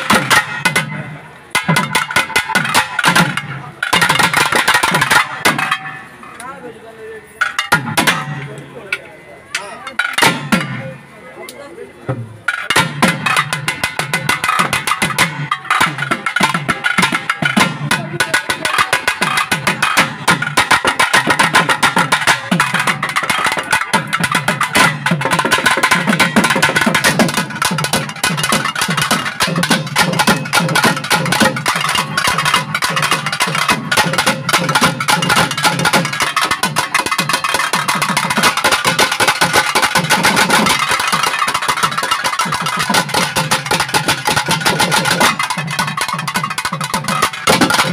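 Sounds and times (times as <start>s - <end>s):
fast drum strokes: 0.0s - 6.0s, 12.1s - 47.9s.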